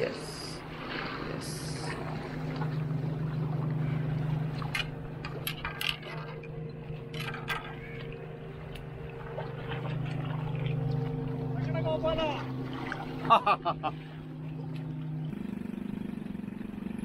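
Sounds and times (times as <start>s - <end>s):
water sloshing against rocks: 0.0s - 15.3s
low motor drone: 0.0s - 17.0s.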